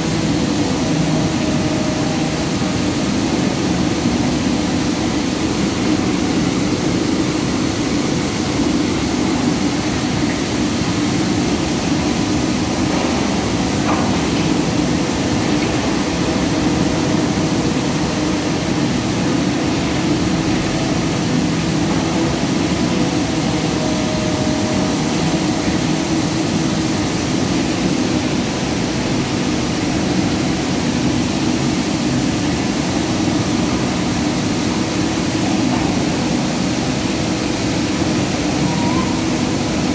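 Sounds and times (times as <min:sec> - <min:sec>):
industrial machinery drone: 0:00.0 - 0:39.9.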